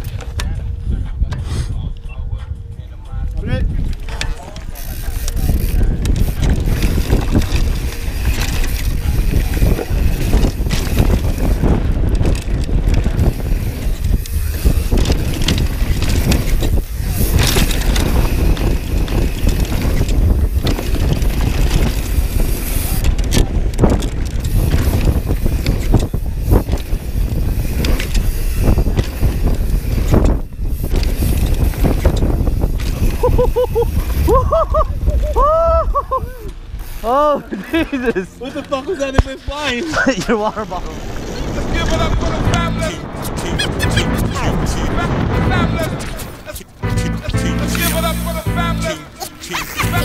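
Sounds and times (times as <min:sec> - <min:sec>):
wind rushing over microphone: 0:00.0 - 0:49.2
bike rattling and knocking: 0:03.4 - 0:35.4, 0:36.4 - 0:49.0
tyres rolling on dry dirt: 0:04.0 - 0:35.4, 0:36.1 - 0:47.0.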